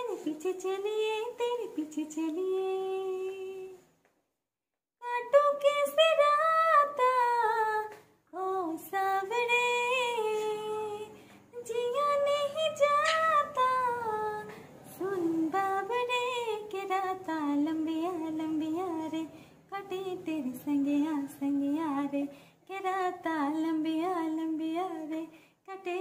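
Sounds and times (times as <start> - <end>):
woman singing unaccompanied: 0.0 - 3.9, 5.0 - 26.0.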